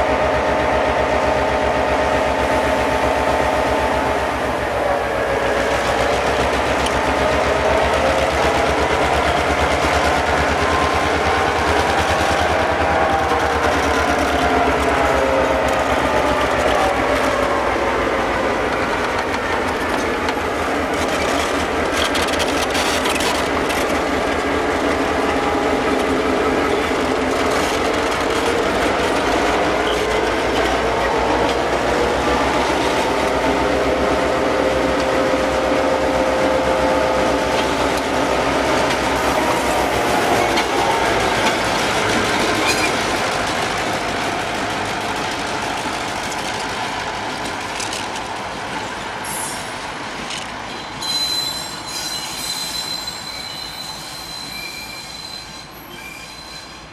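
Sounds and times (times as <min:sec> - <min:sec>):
diesel locomotives passing: 0:00.0 - 0:56.9.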